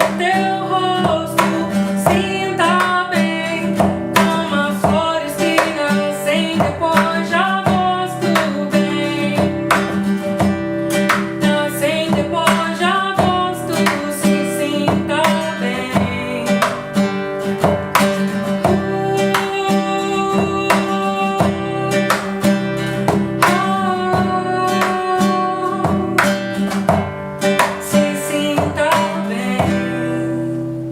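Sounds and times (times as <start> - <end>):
acoustic guitar chords: 0.0 - 30.9
person singing: 0.0 - 30.9.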